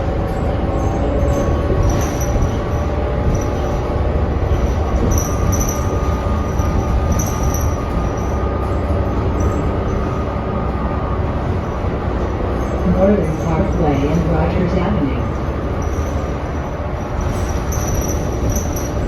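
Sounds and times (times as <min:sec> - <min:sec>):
bus engine low rumble: 0:00.0 - 0:19.0.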